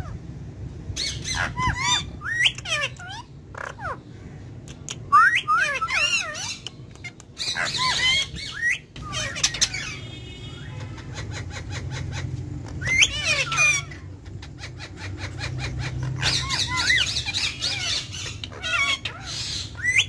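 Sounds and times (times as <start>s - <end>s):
parakeets squawking: 0.9s - 20.0s.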